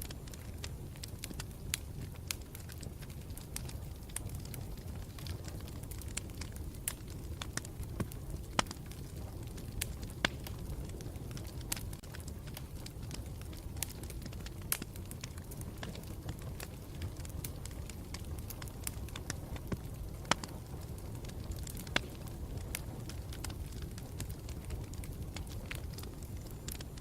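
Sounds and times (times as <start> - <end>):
flames rumbling: 0.0 - 27.0
wood crackling and popping: 0.0 - 27.0.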